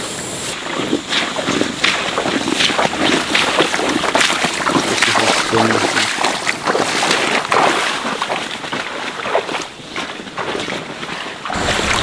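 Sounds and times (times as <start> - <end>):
grass rustling as person walks through: 0.5 - 12.0.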